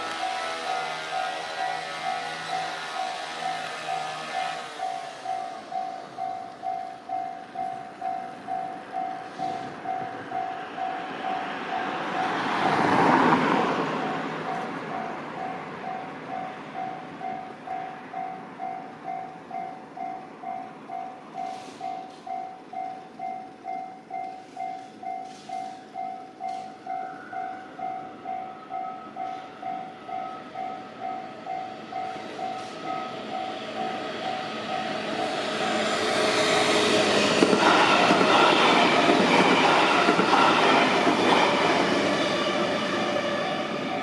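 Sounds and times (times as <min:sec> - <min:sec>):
level crossing warning bell: 0:00.0 - 0:12.6, 0:14.0 - 0:44.0
passing train: 0:00.0 - 0:44.0.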